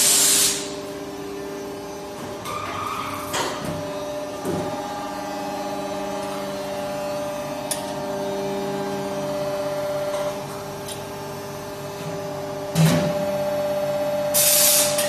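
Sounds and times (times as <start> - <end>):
die casting machine humming: 0.0 - 15.0.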